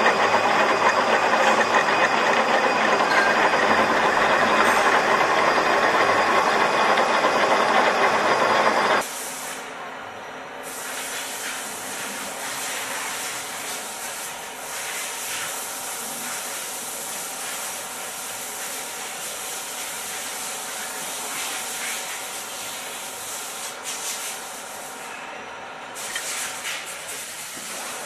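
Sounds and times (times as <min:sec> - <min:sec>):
faint machine hum: 0:00.0 - 0:28.0
hissing machine-shop noise: 0:00.0 - 0:28.0.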